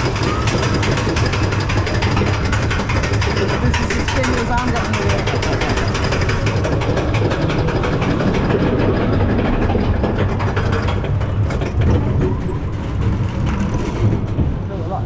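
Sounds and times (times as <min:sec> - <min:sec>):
rattling and clicking: 0:00.0 - 0:15.0
roller coaster rumbling on track: 0:00.0 - 0:15.0.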